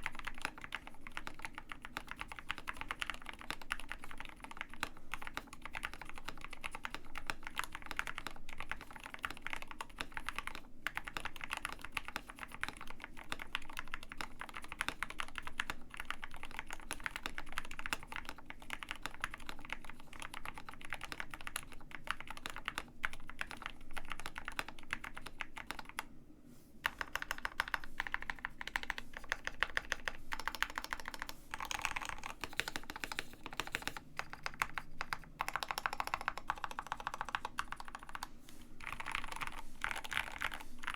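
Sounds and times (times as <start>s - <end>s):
typing on mechanical keyboard: 0.0s - 26.1s, 26.8s - 40.9s.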